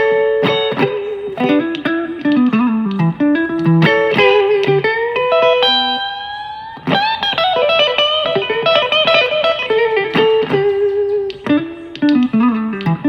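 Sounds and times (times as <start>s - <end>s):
electric guitar playing blues lead: 0.0s - 13.0s.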